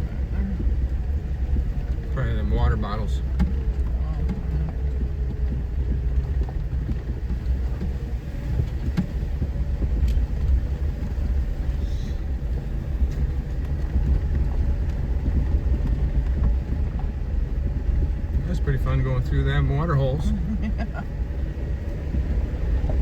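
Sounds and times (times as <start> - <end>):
off-road vehicle engine rumble: 0.0 - 23.0
vehicle knocks and rattles: 0.0 - 23.0.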